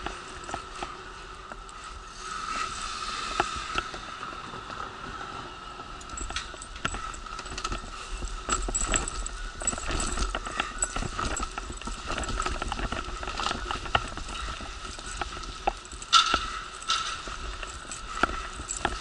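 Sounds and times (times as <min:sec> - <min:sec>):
wheelchair rattling over pavement: 0:00.0 - 0:19.0.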